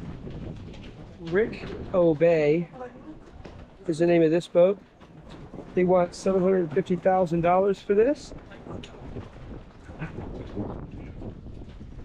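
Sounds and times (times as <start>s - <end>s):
wind buffeting microphone: 0.0s - 12.0s
faint voices: 1.2s - 11.3s.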